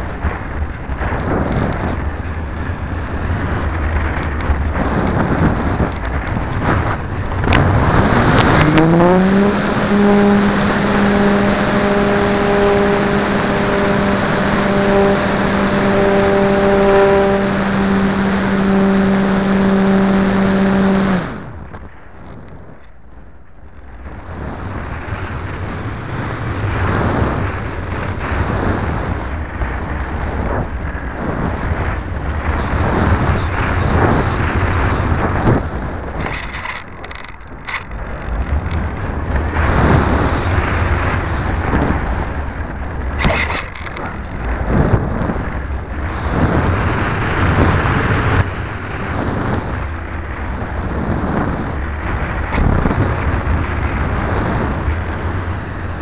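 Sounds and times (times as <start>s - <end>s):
low rumble: 0.0s - 56.0s
wind buffeting microphone: 0.0s - 56.0s.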